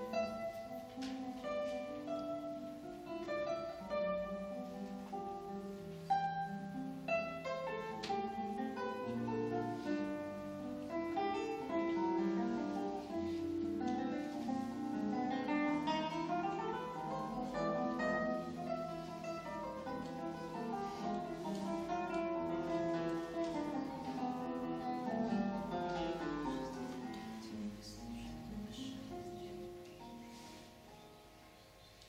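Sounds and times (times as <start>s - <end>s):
fingerpicked classical guitar: 0.0s - 32.0s.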